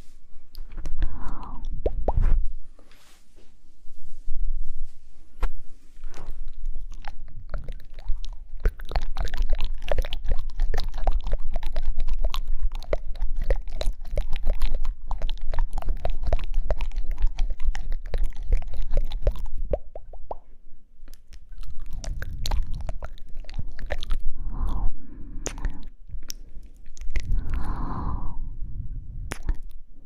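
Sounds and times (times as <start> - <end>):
wet mouth clicks and smacks: 0.5 - 2.4, 6.0 - 28.2, 29.2 - 29.8.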